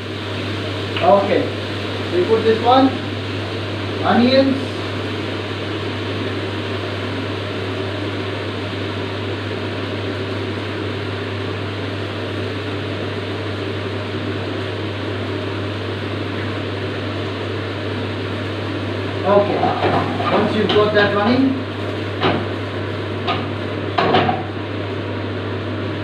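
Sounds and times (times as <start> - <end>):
gas burner flame rushing: 0.0 - 26.0.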